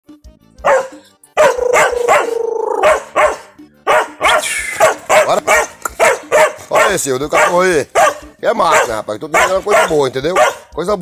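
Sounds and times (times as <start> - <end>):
dog barking excitedly: 0.6 - 10.7.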